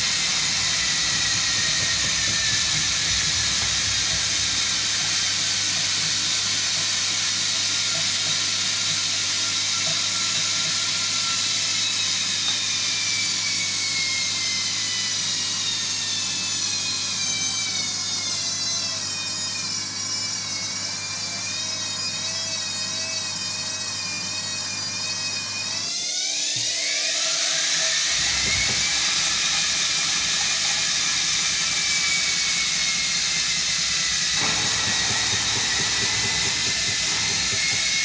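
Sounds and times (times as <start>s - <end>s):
washing machine motor whining: 0.0s - 38.0s.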